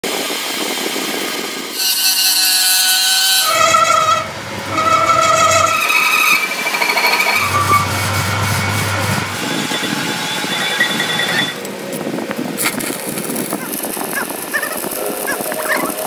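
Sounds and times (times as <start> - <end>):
power tools hissing and whining: 0.1 - 16.0.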